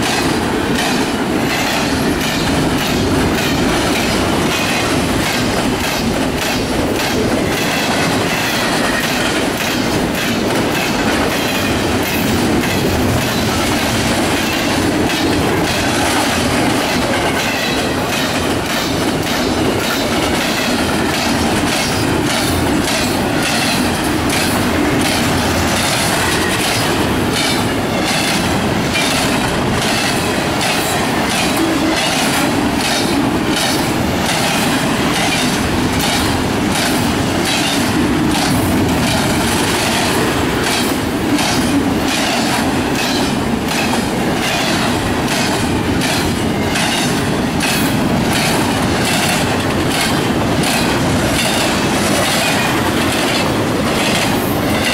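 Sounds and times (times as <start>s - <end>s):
rapid clicking over rail joints: 0.0s - 54.9s
train wheels rumbling on rail: 0.0s - 54.9s.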